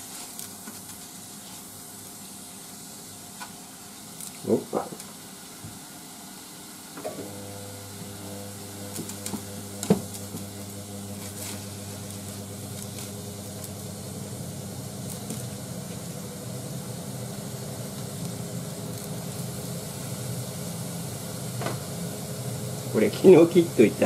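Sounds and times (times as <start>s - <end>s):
meat sizzling in a saucepan: 1.0s - 24.0s.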